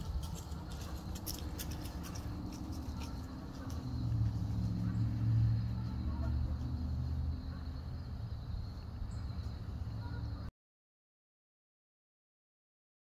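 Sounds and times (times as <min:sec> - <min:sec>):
engine humming: 0:00.0 - 0:10.5.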